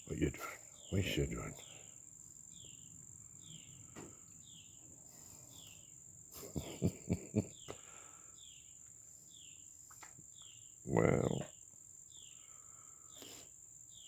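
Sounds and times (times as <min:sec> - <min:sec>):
insect chirping: 0:00.0 - 0:14.0
insects droning: 0:00.0 - 0:14.0.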